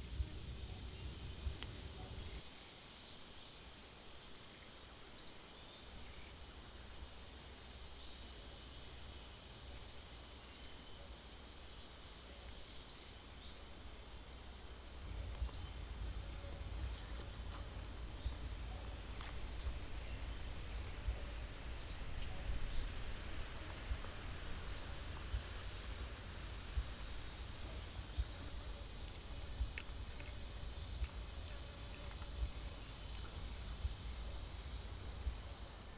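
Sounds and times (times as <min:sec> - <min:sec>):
faint insect whine: 0:00.0 - 0:35.9.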